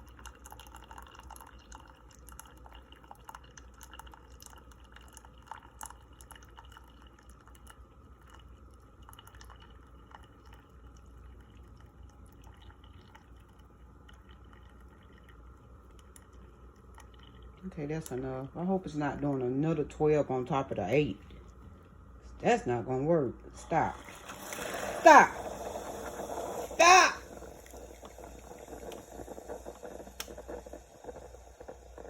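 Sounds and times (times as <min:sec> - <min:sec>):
coffee dripping into cup: 0:00.0 - 0:22.0, 0:23.3 - 0:32.0.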